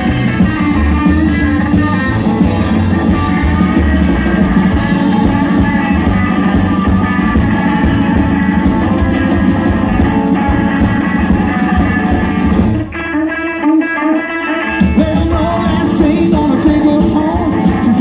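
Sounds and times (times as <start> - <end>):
electric guitar bending phrase: 0.0 - 18.0
live band playing: 0.0 - 18.0.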